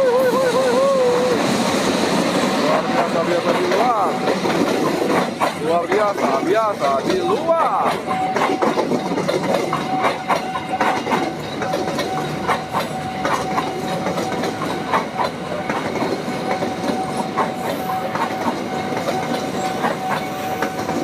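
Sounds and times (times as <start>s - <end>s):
train wheels clacking over rail joints: 0.0s - 21.0s.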